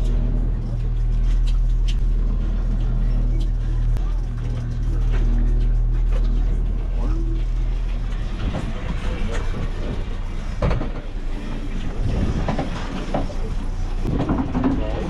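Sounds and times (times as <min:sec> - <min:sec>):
engine knocks: 0:00.0 - 0:15.0
engine running: 0:00.0 - 0:15.0.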